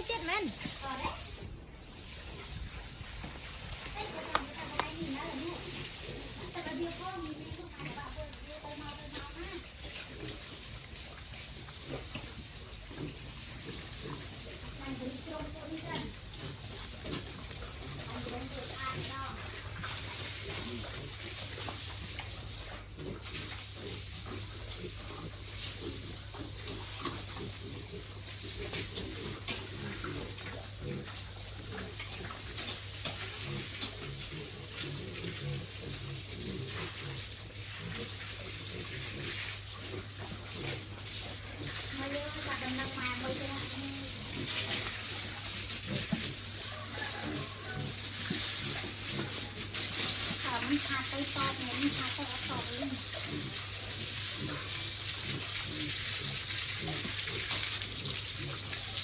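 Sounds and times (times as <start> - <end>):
running water splashing: 0.0 - 59.0
pig grunts: 5.0 - 8.0, 11.8 - 19.5, 20.3 - 21.7, 22.8 - 59.0.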